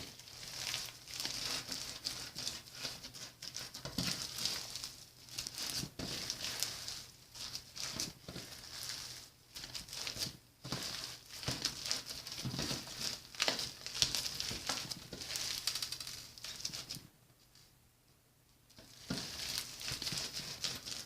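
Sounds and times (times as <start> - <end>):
crunchy slime crackling: 0.0 - 17.0, 18.8 - 21.0.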